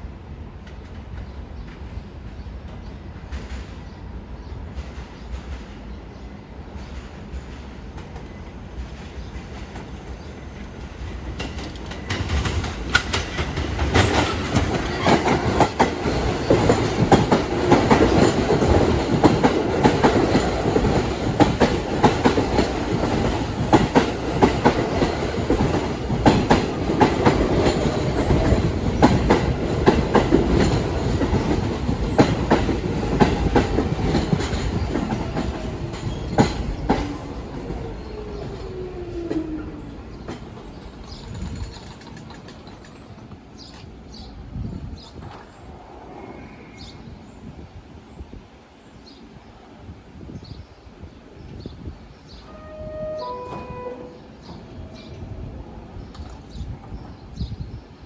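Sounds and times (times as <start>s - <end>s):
subway train wheels clacking: 0.0s - 58.0s
train whine: 0.0s - 58.0s.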